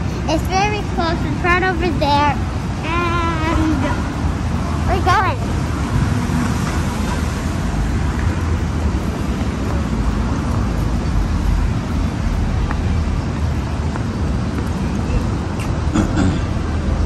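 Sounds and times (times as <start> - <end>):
city street traffic: 0.0 - 17.0
wind rumbling on microphone: 0.0 - 17.0.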